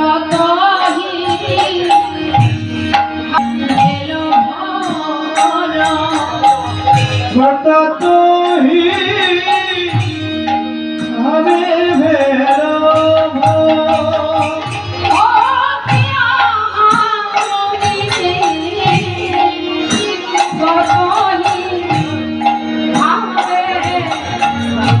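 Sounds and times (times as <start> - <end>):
hand drum: 0.0 - 25.0
held instrumental tones: 0.0 - 25.0
jingling percussion: 0.0 - 25.0.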